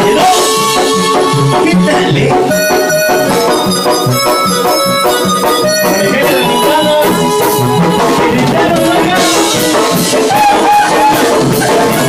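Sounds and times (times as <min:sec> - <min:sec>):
bass guitar: 0:00.0 - 0:12.0
drum kit beat: 0:00.0 - 0:12.0
keyboard melody: 0:00.0 - 0:12.0.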